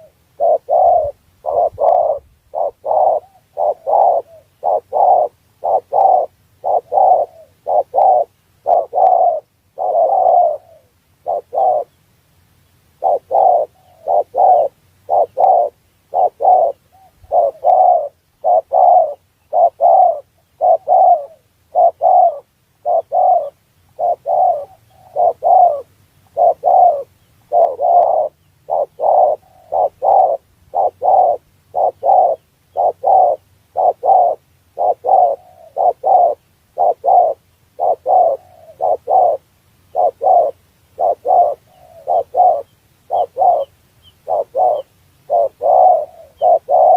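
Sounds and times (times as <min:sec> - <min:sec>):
dove cooing: 0:00.0 - 0:12.0, 0:13.0 - 0:46.9.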